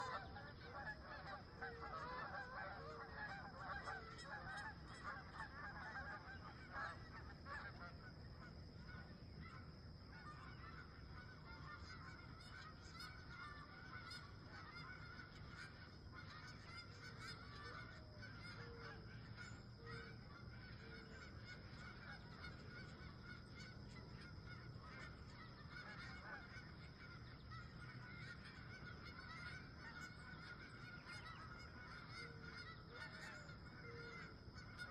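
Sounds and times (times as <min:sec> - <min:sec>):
geese honking: 0:00.0 - 0:34.9.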